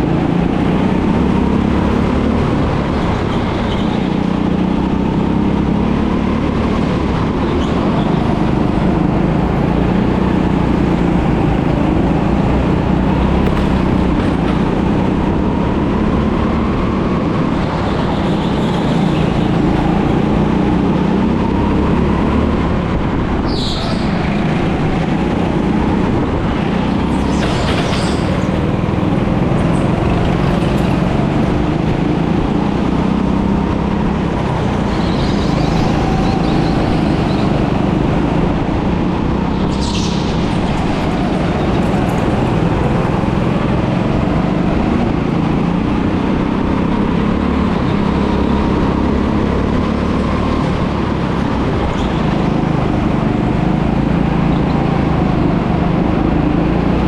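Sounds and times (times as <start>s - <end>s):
go-kart engine running: 0.0s - 57.0s
kart rumbling on track: 0.0s - 57.0s.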